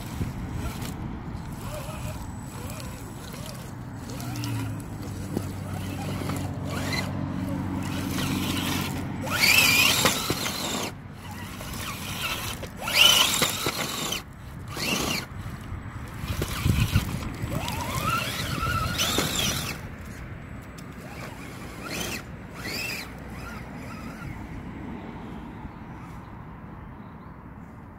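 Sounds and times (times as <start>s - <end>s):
electric motor and gears whining: 0.0s - 24.6s.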